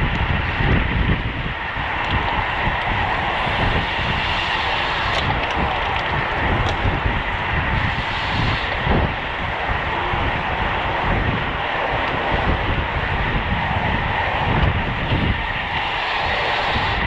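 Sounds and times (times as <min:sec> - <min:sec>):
bicycle road noise: 0:00.0 - 0:17.0
rushing wind: 0:00.0 - 0:17.0.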